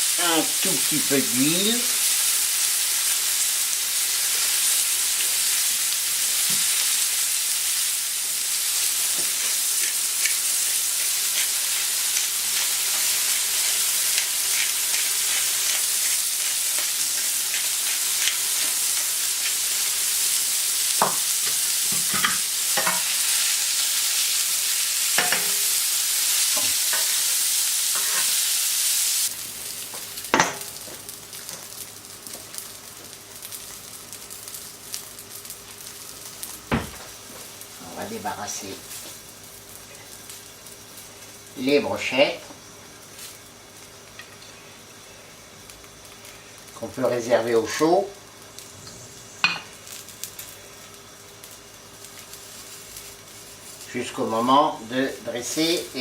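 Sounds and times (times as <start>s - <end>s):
food sizzling on griddle: 0.0s - 56.0s.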